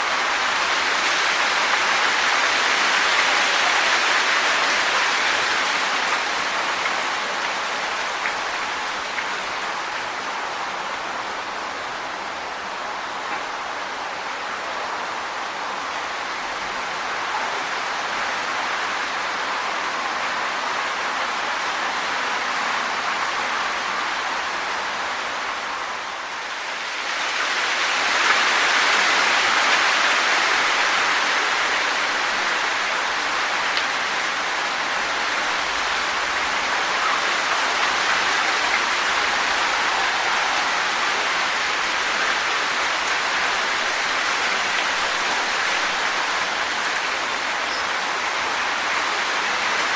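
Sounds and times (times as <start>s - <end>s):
wind rustling tree leaves: 0.0s - 49.9s.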